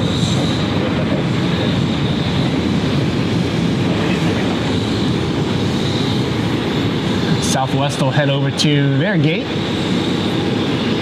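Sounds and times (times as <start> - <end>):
jet engine high whine: 0.0 - 11.0
jet engines rumbling: 0.0 - 11.0.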